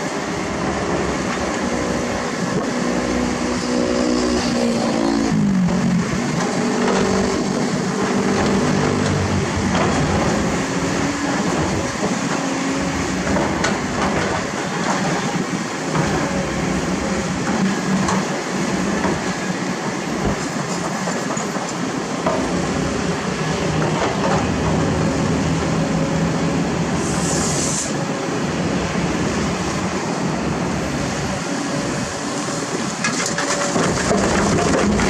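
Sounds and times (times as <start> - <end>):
excavator diesel engine and hydraulics: 0.0 - 35.0.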